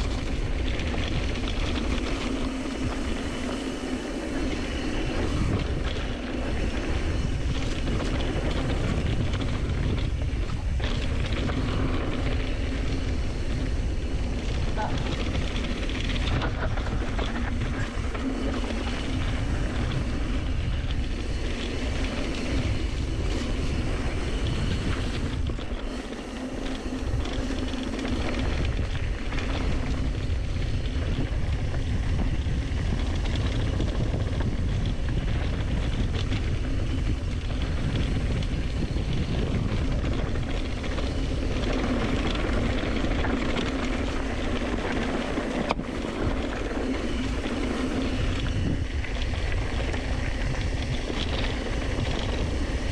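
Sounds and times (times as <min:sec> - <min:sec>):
bike rattling: 0:00.0 - 0:52.9
wind on microphone: 0:00.0 - 0:52.9.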